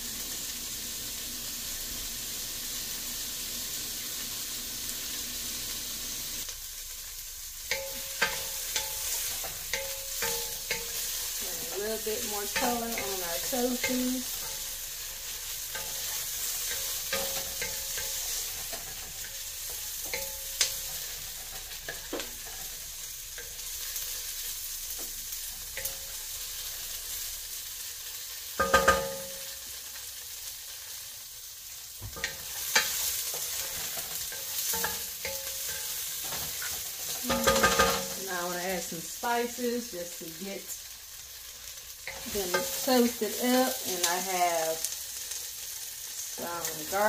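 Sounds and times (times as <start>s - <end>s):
tofu and onion sizzling: 0.0s - 47.0s.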